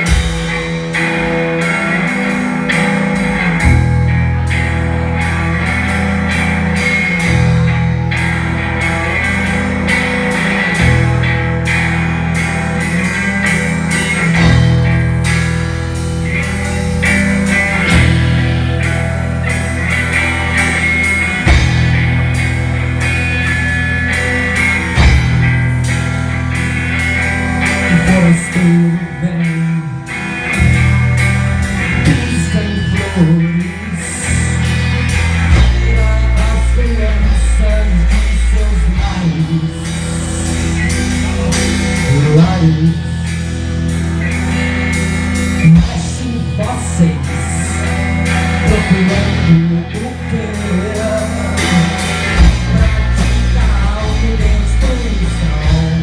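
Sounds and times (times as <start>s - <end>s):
drum kit beat: 0.0s - 56.0s
heavy bass line: 0.0s - 56.0s
rock band playing live: 0.0s - 56.0s.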